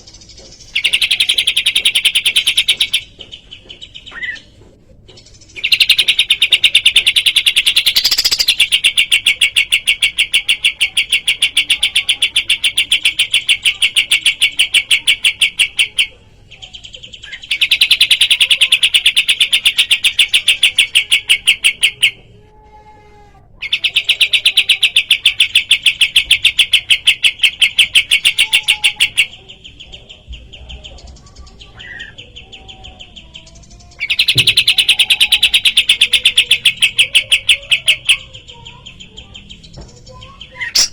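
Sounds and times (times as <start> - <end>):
songbird rattling trills: 0.0 - 4.6, 5.2 - 16.1, 16.7 - 22.2, 23.6 - 40.9.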